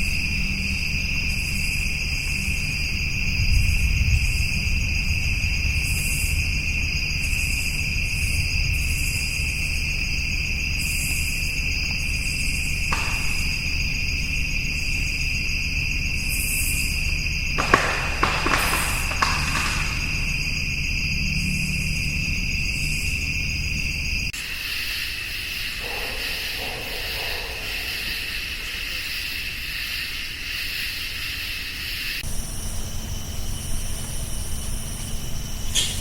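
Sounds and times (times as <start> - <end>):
insect chorus trilling: 0.0 - 36.0.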